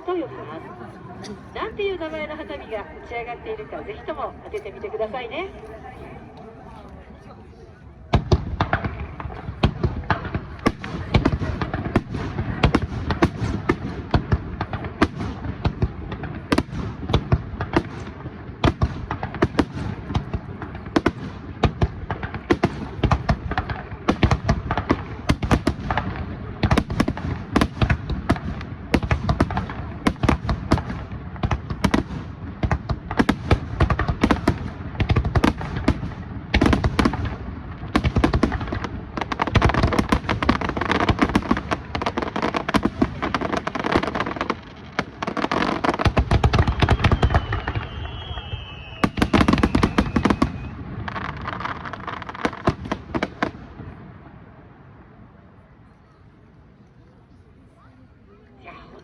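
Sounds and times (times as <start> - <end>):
fireworks bangs and booms: 8.0 - 55.3.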